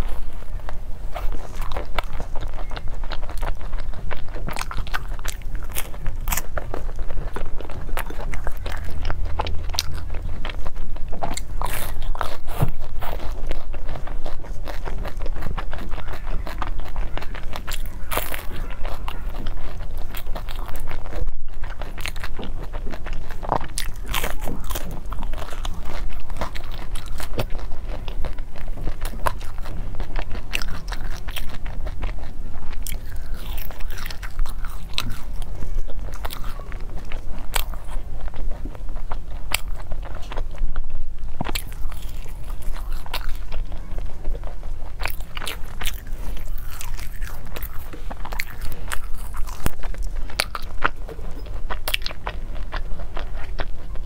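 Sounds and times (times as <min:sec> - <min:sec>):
chewing crunchy pastry: 0:00.0 - 0:54.0.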